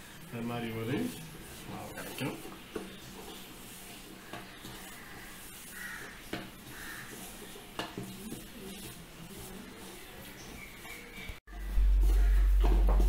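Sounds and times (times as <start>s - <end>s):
dough scraping steel bowl: 0.0s - 13.0s
dough squishing: 0.0s - 13.0s.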